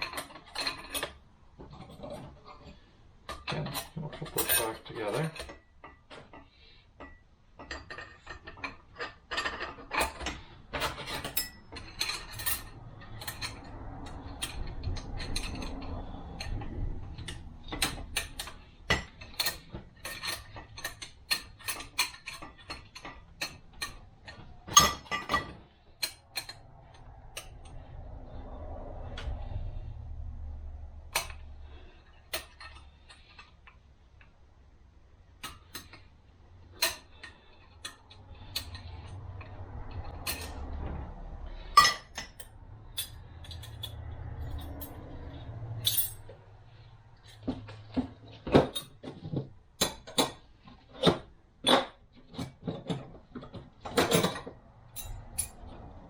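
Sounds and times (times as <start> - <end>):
metal parts clicking and knocking: 0.0 - 27.9, 31.1 - 33.8, 35.4 - 36.1, 36.7 - 46.6, 47.2 - 56.0.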